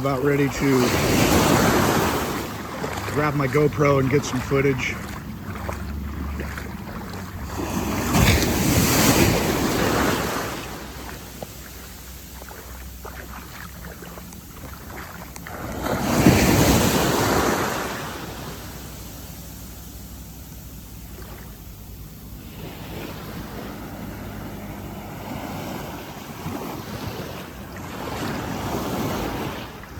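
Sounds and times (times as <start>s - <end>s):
small waves washing onto beach: 0.0s - 29.9s.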